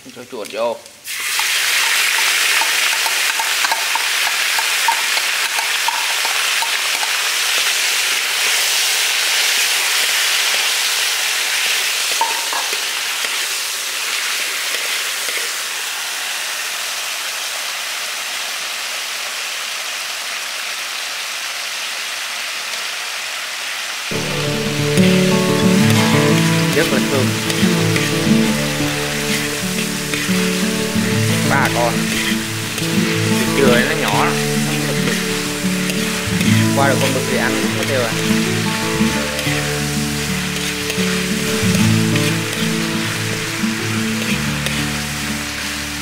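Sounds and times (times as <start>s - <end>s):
meat sizzling in hot oil: 1.0s - 46.0s.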